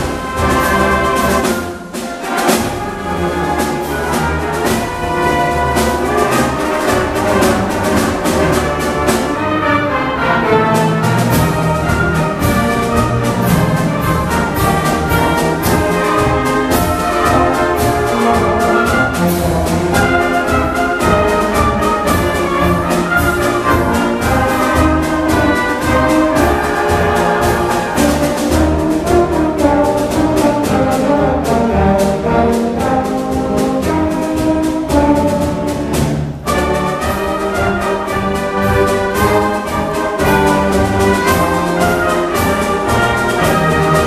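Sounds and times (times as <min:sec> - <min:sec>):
concert band playing a march: 0:00.0 - 0:44.0
marching beat in brass and percussion: 0:00.0 - 0:44.0
trumpets and saxophones: 0:00.0 - 0:44.0.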